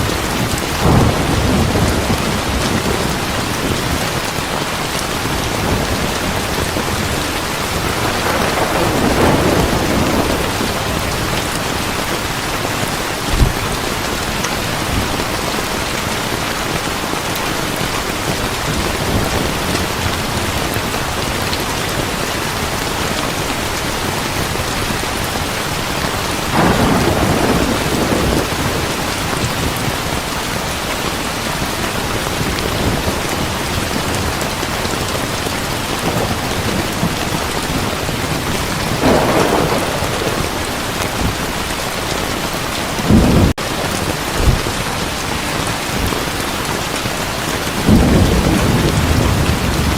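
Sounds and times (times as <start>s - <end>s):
thunder rumbling: 0.0s - 23.4s, 24.4s - 30.6s, 32.0s - 49.9s
heavy rain pouring: 0.0s - 49.9s.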